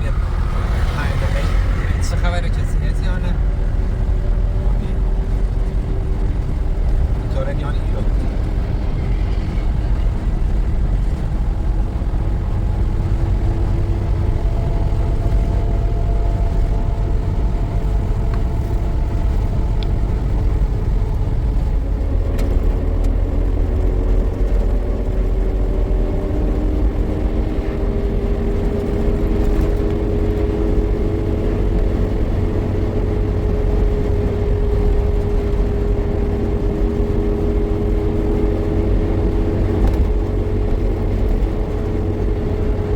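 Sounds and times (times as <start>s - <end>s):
motor vehicle engine drone: 0.0s - 42.9s.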